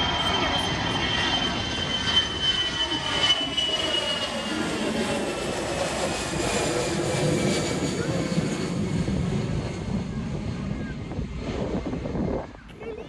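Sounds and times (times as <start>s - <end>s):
airplane engine whine: 0.0s - 13.0s.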